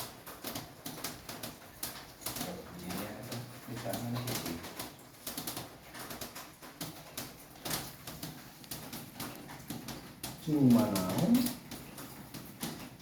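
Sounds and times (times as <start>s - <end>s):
clicks and knocks inside well: 0.0s - 13.0s.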